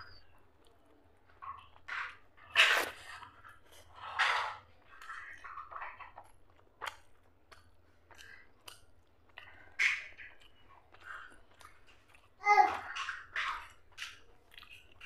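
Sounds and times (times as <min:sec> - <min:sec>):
chewing with wet mouth noises: 0:00.0 - 0:15.0.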